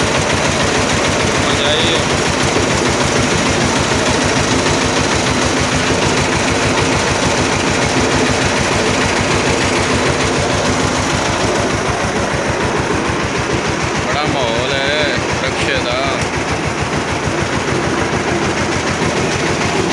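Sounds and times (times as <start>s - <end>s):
condenser fan rushing: 0.0s - 19.9s
small engine idling: 0.0s - 19.9s.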